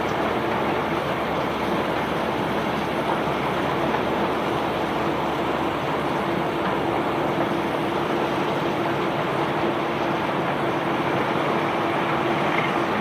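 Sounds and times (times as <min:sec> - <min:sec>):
conveyor belt rumbling: 0:00.0 - 0:13.0.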